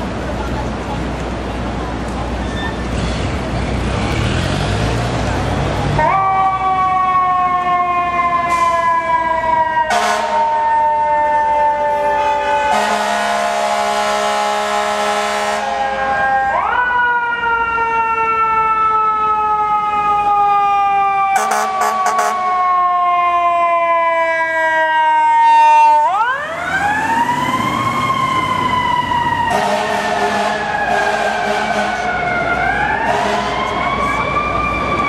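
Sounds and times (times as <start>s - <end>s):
fire engine siren wailing: 4.0s - 35.0s.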